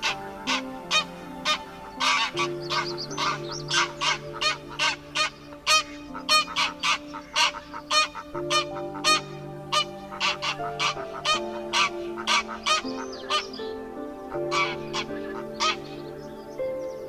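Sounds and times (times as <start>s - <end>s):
soft background music: 0.0s - 17.0s
waterbird calling: 0.0s - 17.0s.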